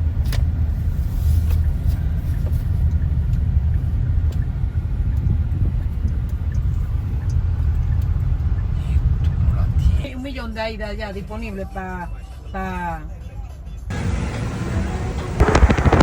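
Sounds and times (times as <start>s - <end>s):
road vehicle rumble: 0.0s - 16.0s.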